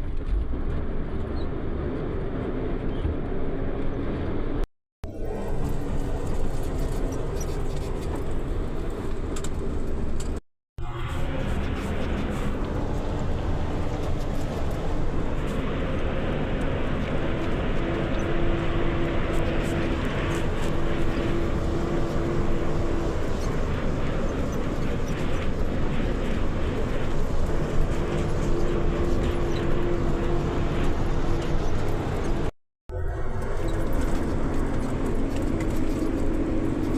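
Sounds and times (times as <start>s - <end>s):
steady whine: 3.5s - 36.9s.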